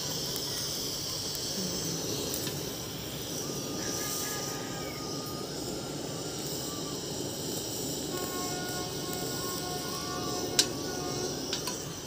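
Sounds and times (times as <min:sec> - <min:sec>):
faint thin whistling tones: 0:00.0 - 0:12.0
gas burner flame rushing: 0:00.0 - 0:12.0
high hiss: 0:00.0 - 0:12.0.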